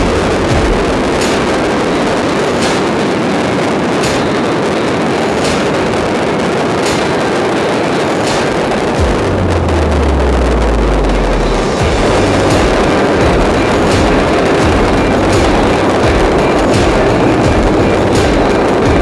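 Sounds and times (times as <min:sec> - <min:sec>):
bottle rockets roaring: 0:00.0 - 0:19.0
firework cracks: 0:00.0 - 0:19.0.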